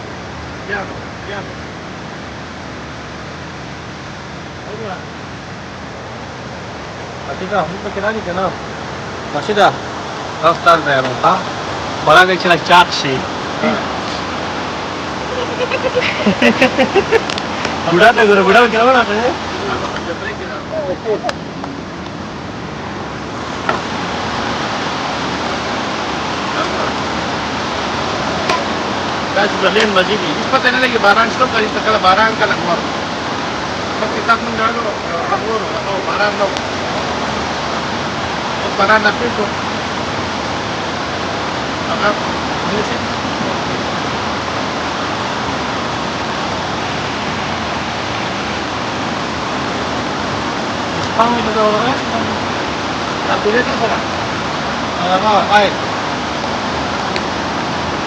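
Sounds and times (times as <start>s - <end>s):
river flowing: 0.0s - 58.0s
water rushing: 0.0s - 58.0s.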